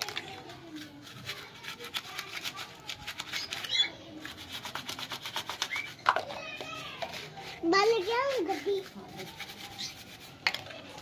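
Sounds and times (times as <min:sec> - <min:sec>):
brush scrubbing plastic cups: 0:00.0 - 0:11.0.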